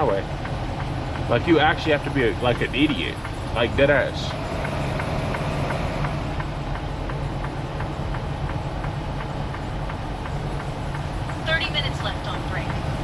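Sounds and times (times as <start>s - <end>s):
tire chains clacking on road: 0.0s - 13.0s
truck engine and road drone: 0.0s - 13.0s.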